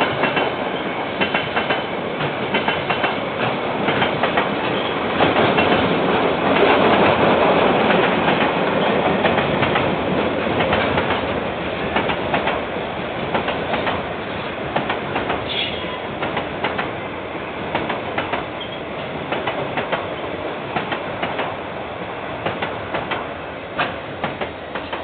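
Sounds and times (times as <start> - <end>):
train wheels clicking over rail joints: 0.0 - 12.6, 13.2 - 14.1, 14.7 - 17.0, 17.7 - 21.6, 22.4 - 25.0.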